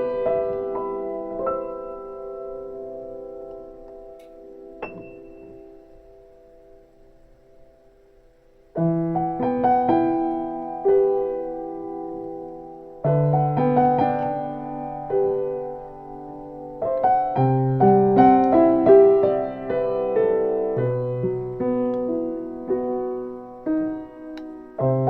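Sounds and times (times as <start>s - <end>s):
solo piano music: 0.0s - 25.0s.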